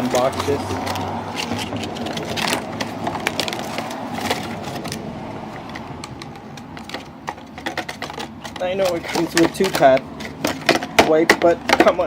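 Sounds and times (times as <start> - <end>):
packaging crinkling and clicking: 0.0 - 12.0
street traffic noise: 0.0 - 12.0.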